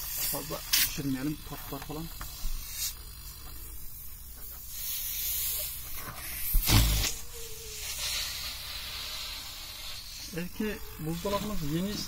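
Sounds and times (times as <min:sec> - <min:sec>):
compressed air hissing: 0:00.0 - 0:12.0
compressor motor humming: 0:00.0 - 0:12.0.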